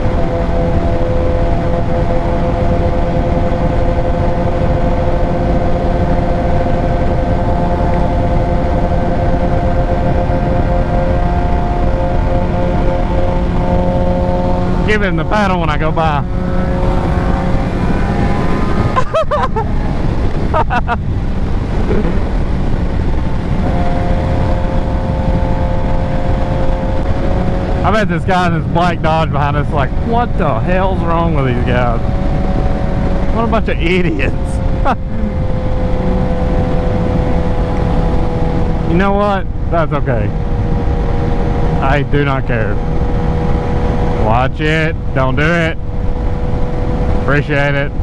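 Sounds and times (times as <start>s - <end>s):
steady held tone: 0.0s - 44.1s
heavy wind noise: 0.0s - 48.0s
motorcycle engine cruising: 0.0s - 48.0s.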